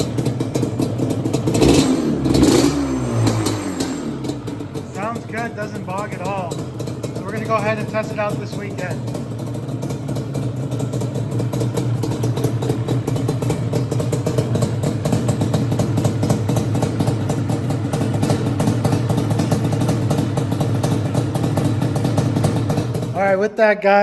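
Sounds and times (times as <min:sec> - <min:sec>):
engine idling through exhaust: 0:00.0 - 0:23.5.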